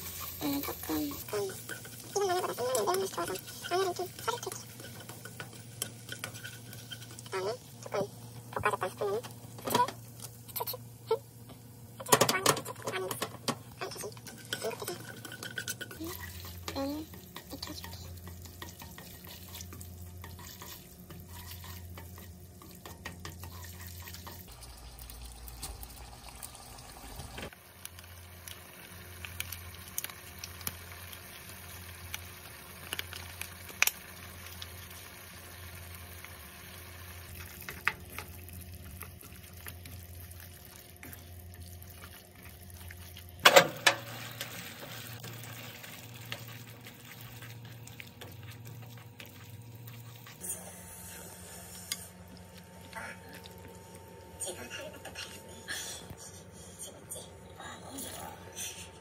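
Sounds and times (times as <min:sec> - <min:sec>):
food sizzling in a frying pan: 0:00.0 - 0:55.7.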